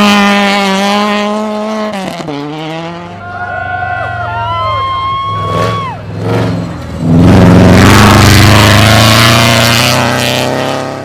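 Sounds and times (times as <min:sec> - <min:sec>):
rally car engine at full throttle: 0:00.0 - 0:11.0.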